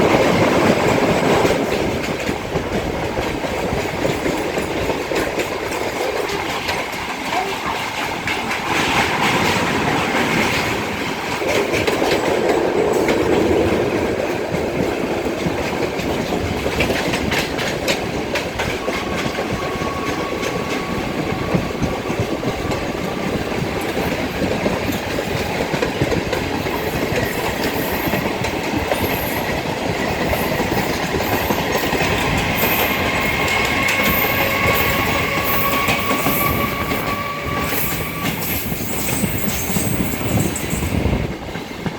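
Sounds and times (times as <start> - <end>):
train rumbling on track: 0.0 - 41.9
wheels clacking over rail joints: 0.0 - 41.9.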